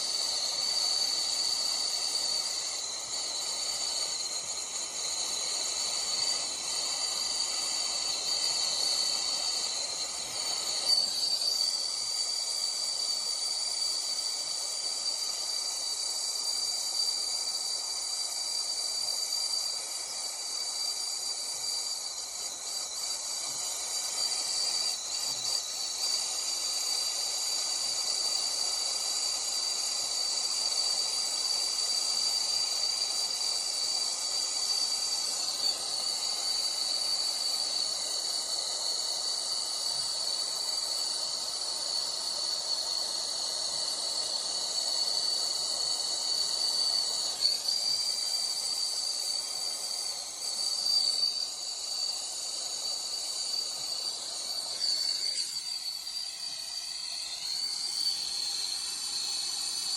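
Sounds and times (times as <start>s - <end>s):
steady high-pitched tone: 0.0s - 29.0s, 29.6s - 59.9s
brazing torch flame hissing: 0.0s - 59.9s.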